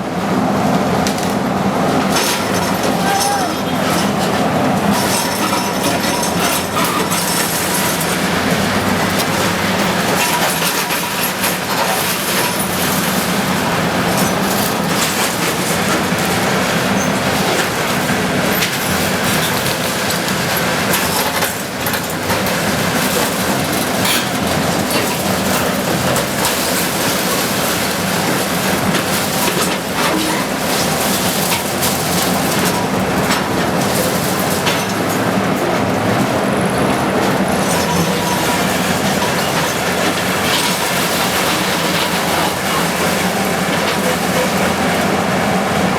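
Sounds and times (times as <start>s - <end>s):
bulldozer engine drone: 0.0s - 45.9s
metallic clanking and rattling: 2.1s - 45.0s.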